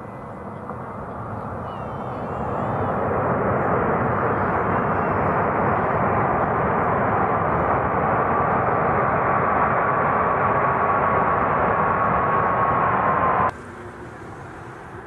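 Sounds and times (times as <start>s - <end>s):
high engine whine: 0.0s - 15.0s
jet engines roaring: 0.0s - 15.0s.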